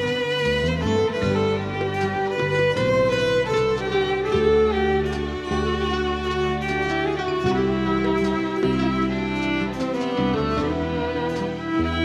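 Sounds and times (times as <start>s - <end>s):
low sustained bass notes: 0.0s - 12.0s
solo violin melody: 0.0s - 12.0s.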